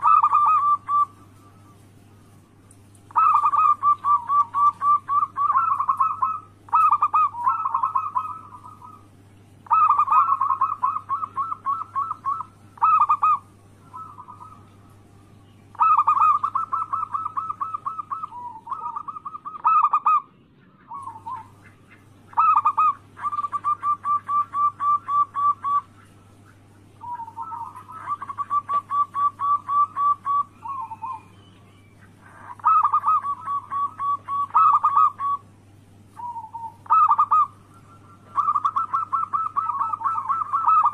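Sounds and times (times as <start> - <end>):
doves cooing: 0.0 - 40.9
faint low hum: 0.0 - 40.9.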